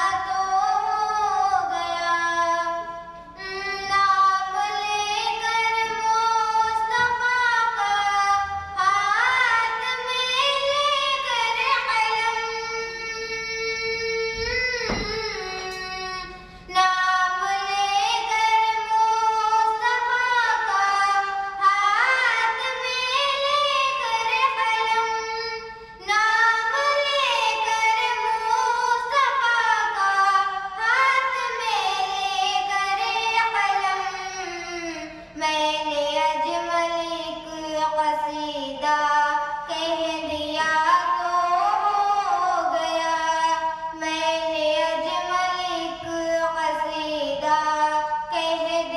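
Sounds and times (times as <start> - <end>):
girl singing into microphone: 0.0 - 48.9.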